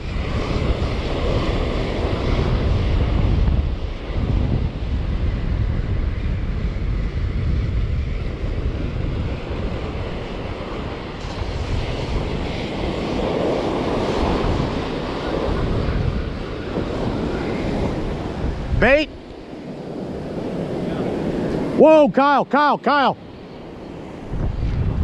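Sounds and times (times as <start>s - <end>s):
ocean surf breaking: 0.0s - 6.4s, 8.2s - 25.0s
wind buffeting the microphone: 0.0s - 22.0s, 23.2s - 25.0s.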